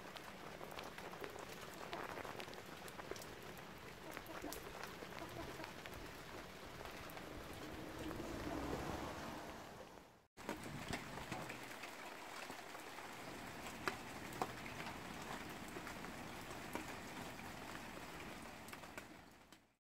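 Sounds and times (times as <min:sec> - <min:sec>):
rain hiss: 0:00.0 - 0:19.8
water drips ticking: 0:00.1 - 0:09.2, 0:09.8 - 0:19.8.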